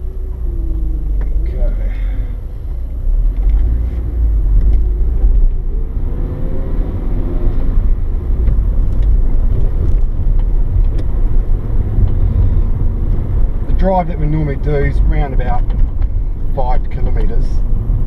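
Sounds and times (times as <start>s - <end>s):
car engine: 0.0s - 18.0s
road rumble: 0.0s - 18.0s.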